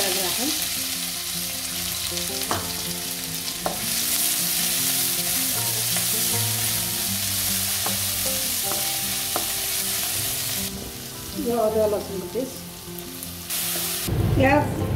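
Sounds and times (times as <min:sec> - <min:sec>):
onion sizzling in hot oil: 0:00.0 - 0:14.2.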